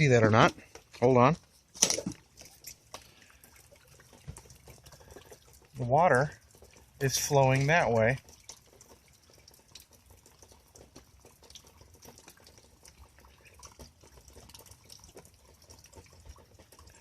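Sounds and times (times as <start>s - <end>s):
faint water trickle: 0.0s - 17.0s
small water drips: 0.0s - 17.0s.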